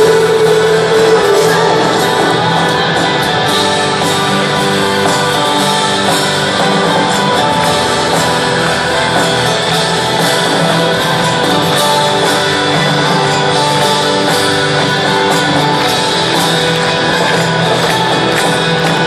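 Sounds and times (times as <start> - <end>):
guitars strumming: 0.0 - 19.0
rock band playing live: 0.0 - 19.0.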